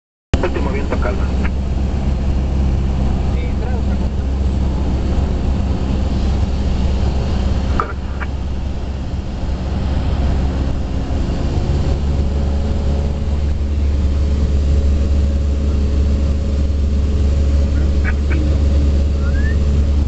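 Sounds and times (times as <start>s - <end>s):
aircraft engine drone: 0.4s - 20.0s.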